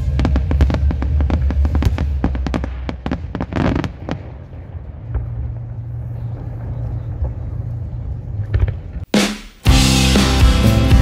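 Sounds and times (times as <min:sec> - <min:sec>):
firework bangs: 0:00.0 - 0:09.6.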